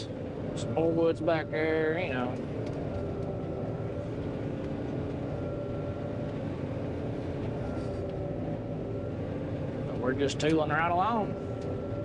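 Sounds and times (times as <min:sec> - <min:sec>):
combine harvester droning: 0:00.0 - 0:12.0
faint steady whining tones: 0:00.0 - 0:12.0.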